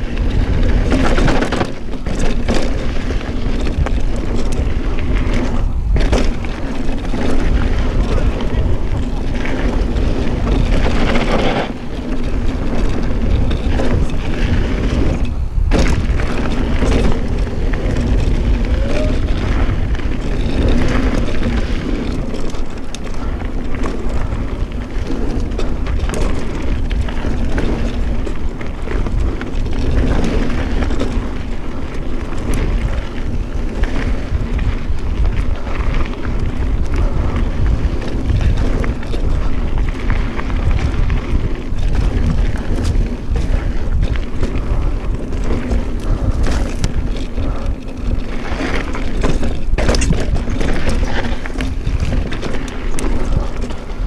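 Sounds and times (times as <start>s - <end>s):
bike rattles and clicks: 0.0s - 54.0s
mountain bike rumbling on dirt trail: 0.0s - 54.0s.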